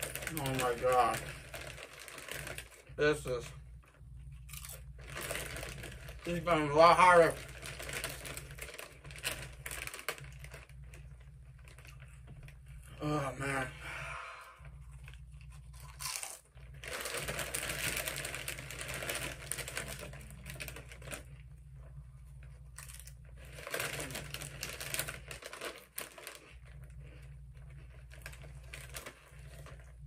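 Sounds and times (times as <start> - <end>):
chip bag crinkling: 0.0 - 13.7, 14.6 - 30.0.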